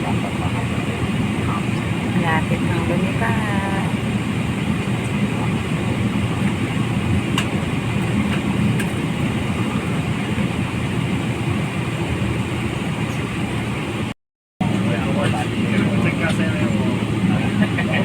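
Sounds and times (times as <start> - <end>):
jet engine rumble in cabin: 0.0 - 18.0.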